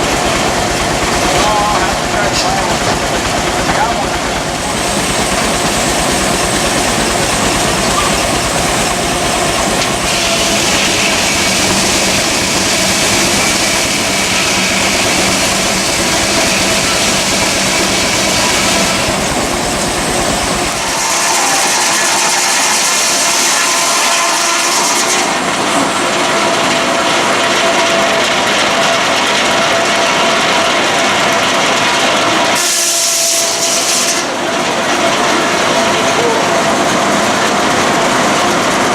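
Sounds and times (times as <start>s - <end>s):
circular saw cutting log: 0.0s - 38.9s
steam engine exhaust chuffing: 0.0s - 38.9s.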